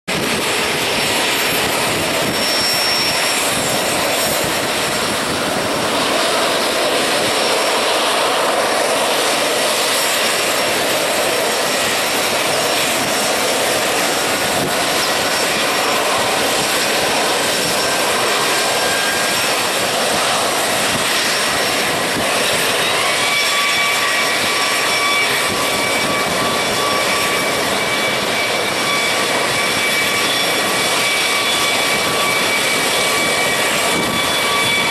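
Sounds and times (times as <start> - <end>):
helicopter engines and rotors roaring: 0.0 - 34.9
high-pitched whine: 0.1 - 34.9.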